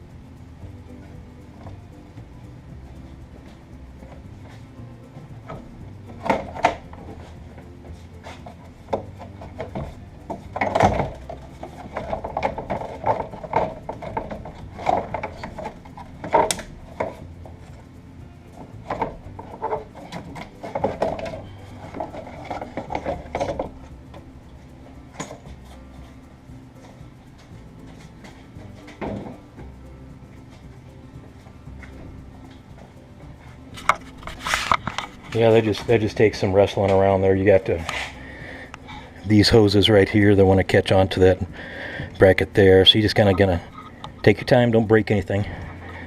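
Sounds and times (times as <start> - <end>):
knocks clunks and scraping: 0.0 - 46.0.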